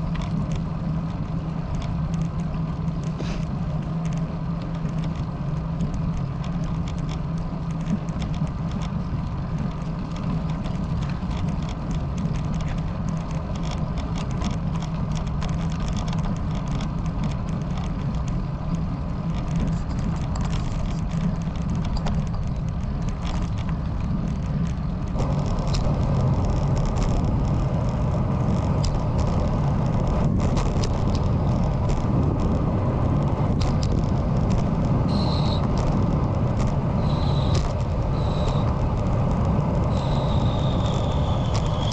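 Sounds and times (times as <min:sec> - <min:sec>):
light ticks: 0:00.0 - 0:41.9
tyre noise on asphalt: 0:00.0 - 0:41.9
wind rushing over microphone: 0:07.5 - 0:41.9.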